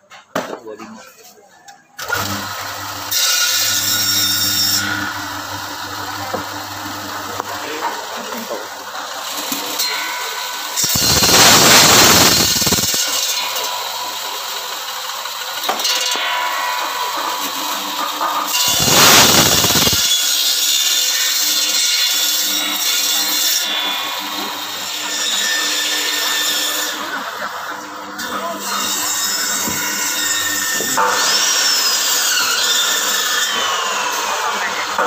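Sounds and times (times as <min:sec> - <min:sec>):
electric saw cutting bone: 0:02.0 - 0:35.0.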